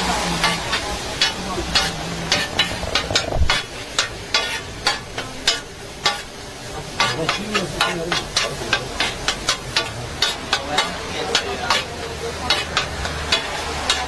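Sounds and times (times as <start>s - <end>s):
meat sizzling on hot plate: 0.0s - 14.0s
metal spatula scraping griddle: 0.0s - 14.0s.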